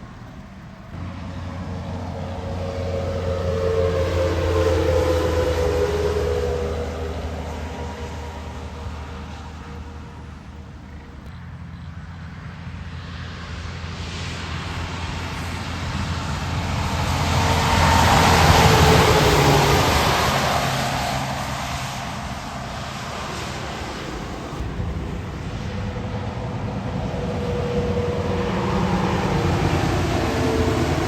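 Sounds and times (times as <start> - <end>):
truck passing: 0.0 - 31.0.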